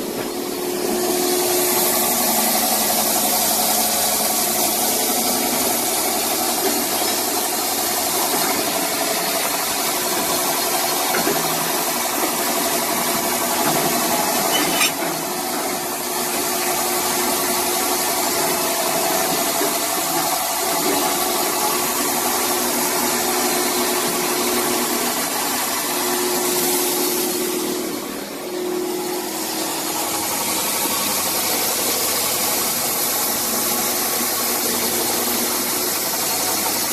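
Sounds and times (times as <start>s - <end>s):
machine motor hum: 0.0s - 36.9s.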